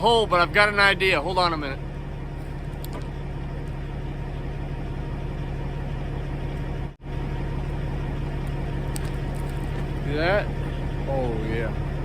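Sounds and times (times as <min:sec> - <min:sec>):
bulldozer diesel engine idling: 0:00.0 - 0:12.0.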